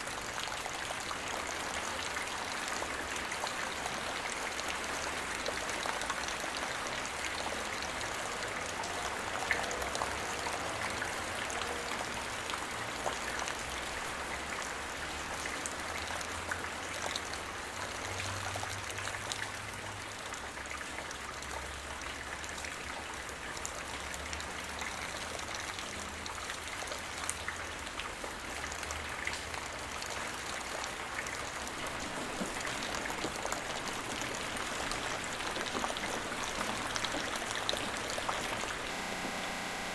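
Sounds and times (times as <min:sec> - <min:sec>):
rain drops ticking on a surface: 0:00.0 - 0:38.9.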